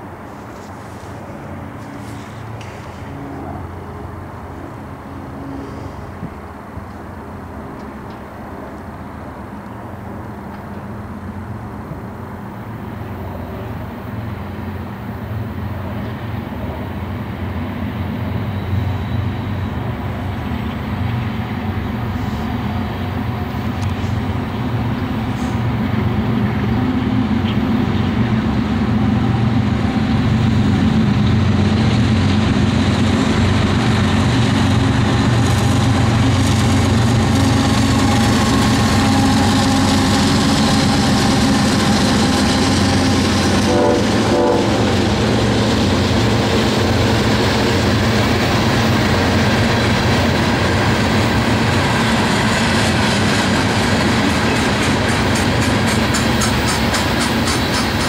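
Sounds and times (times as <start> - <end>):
locomotive engine drone: 0.0 - 58.0.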